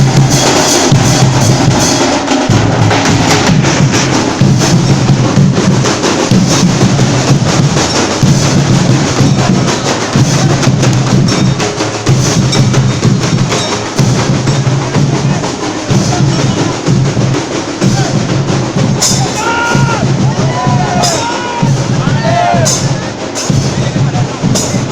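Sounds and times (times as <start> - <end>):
deep drum beating: 0.0 - 24.9
rapid percussion strokes: 0.0 - 24.9.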